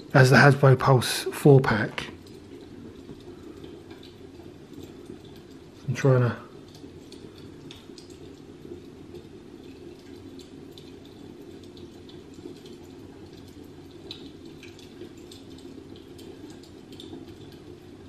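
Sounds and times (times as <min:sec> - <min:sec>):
faint small ticks and clicks: 0:01.6 - 0:18.0.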